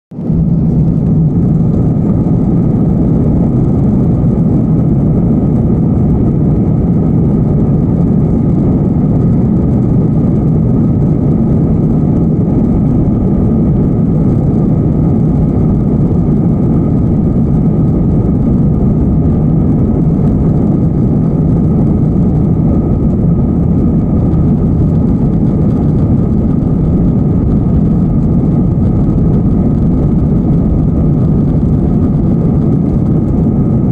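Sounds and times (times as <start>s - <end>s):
jet engines droning: 0.1s - 33.9s.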